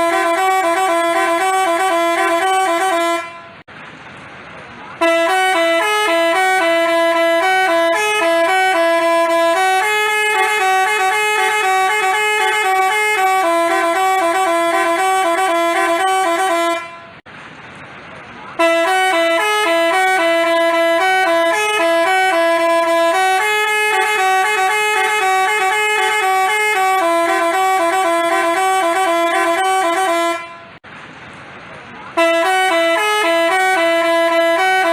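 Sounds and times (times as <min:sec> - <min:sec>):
multi-tone bus horn tune: 0:00.0 - 0:03.7, 0:05.0 - 0:17.3, 0:18.5 - 0:30.8, 0:32.1 - 0:34.9.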